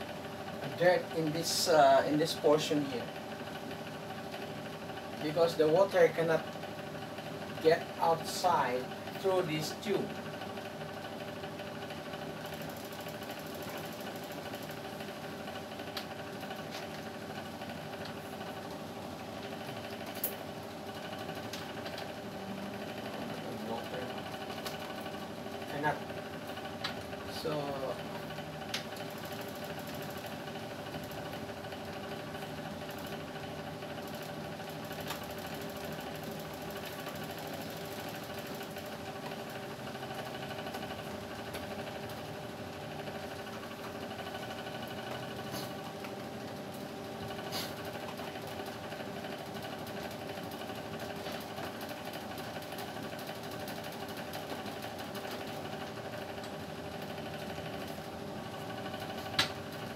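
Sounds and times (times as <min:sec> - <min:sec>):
air conditioner motor hum: 0:00.0 - 0:59.9.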